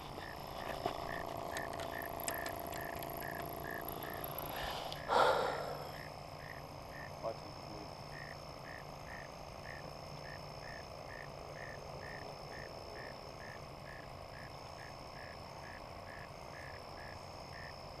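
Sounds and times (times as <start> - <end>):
frog calling: 0.0 - 17.8
steady high-pitched whine: 0.0 - 18.0.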